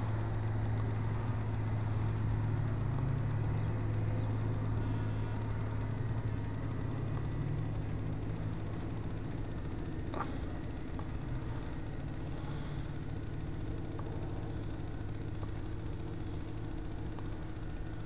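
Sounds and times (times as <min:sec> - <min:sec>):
model plane motor drone: 0:00.0 - 0:18.0.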